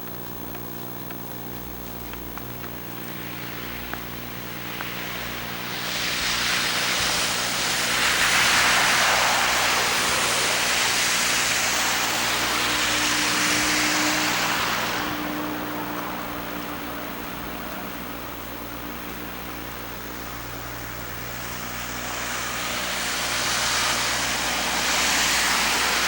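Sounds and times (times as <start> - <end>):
camcorder electrical buzz: 0.0 - 26.0
car tyres hissing on snow: 2.9 - 26.0.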